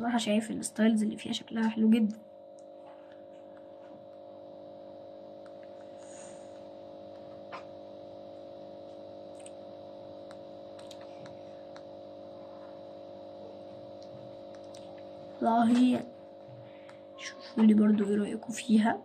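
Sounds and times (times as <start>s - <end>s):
low held tones humming: 0.0s - 19.0s.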